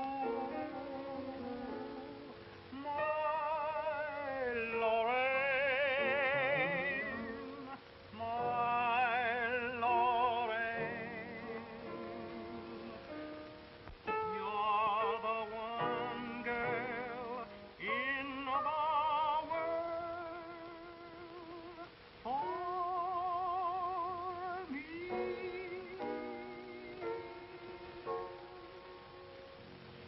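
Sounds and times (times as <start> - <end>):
man crooning a love song: 0.0 - 29.4.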